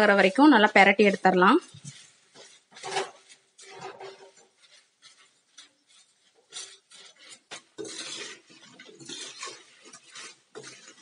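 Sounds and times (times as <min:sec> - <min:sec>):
skimmer scraping steel pan: 0:00.0 - 0:11.0.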